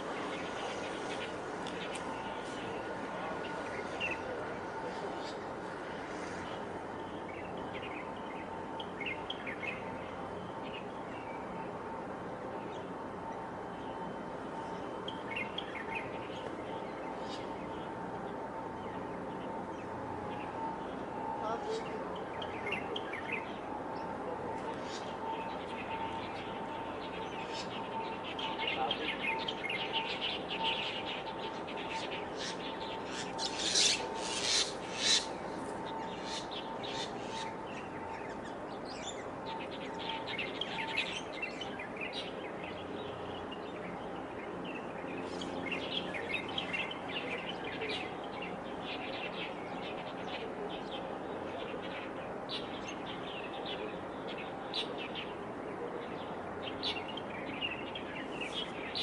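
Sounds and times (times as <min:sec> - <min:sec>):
small birds chirping: 0:00.0 - 0:11.9, 0:13.6 - 0:59.0
faint steady hum: 0:00.0 - 0:59.0.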